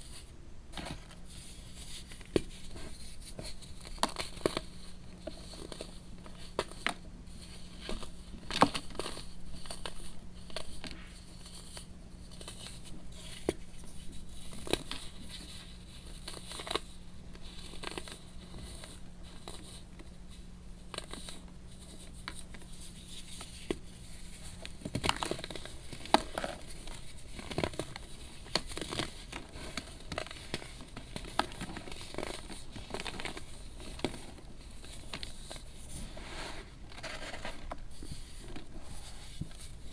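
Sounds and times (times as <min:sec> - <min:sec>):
baking soda crumbling and crackling: 0:00.9 - 0:20.1, 0:20.8 - 0:35.7.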